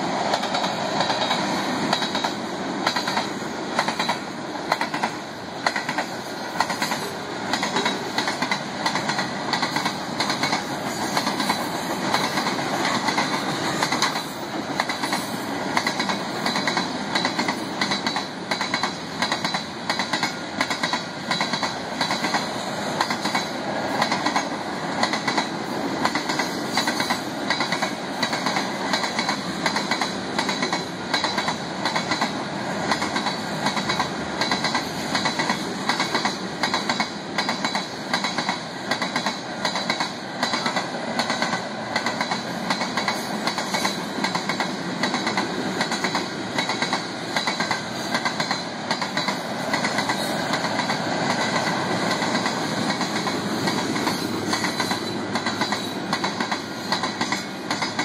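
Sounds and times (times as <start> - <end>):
freight train wheels rumbling: 0.0 - 58.0
wheels clacking over rail joints: 0.0 - 58.0.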